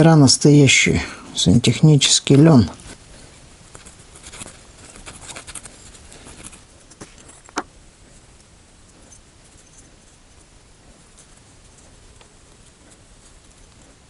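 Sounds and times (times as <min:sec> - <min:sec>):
soft rustling of flax strands: 0:02.5 - 0:14.0.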